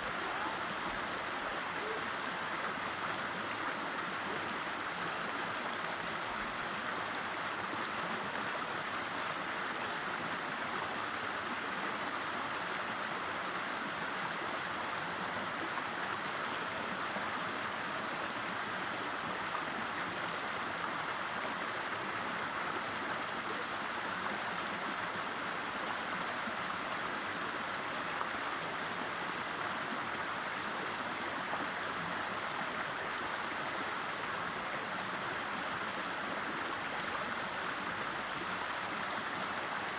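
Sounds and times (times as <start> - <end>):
river water running over stones: 0.0 - 39.9.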